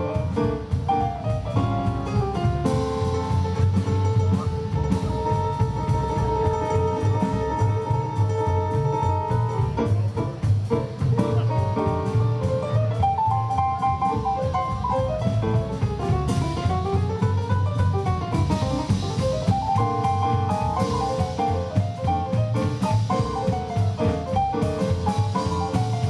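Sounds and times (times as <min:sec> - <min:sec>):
double bass: 0:00.0 - 0:26.0
drum kit beat: 0:00.0 - 0:26.0
piano melody: 0:00.0 - 0:26.0.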